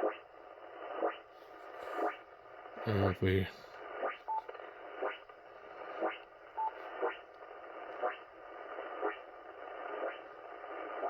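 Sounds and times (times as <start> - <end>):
radio interference hiss: 0.0 - 4.0, 4.6 - 11.0.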